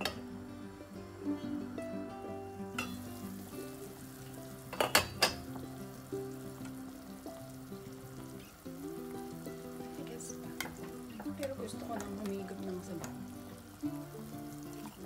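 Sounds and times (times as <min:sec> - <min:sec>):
soup bubbling at a boil: 0:02.6 - 0:15.0.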